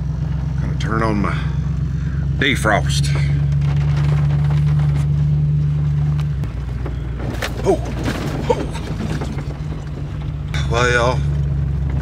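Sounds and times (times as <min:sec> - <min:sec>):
engine and blower hum: 0:00.0 - 0:12.0.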